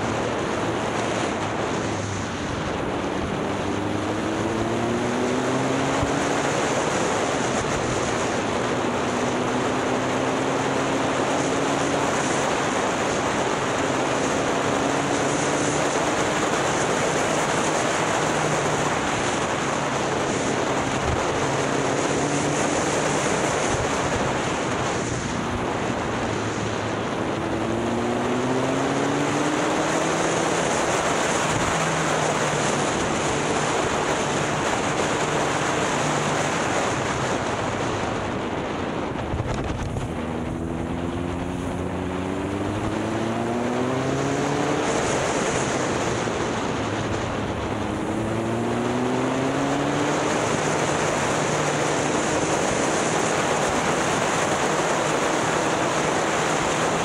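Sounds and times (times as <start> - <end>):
motorcycle engine accelerating: 0.0 - 57.0
wind noise on microphone: 0.0 - 57.0.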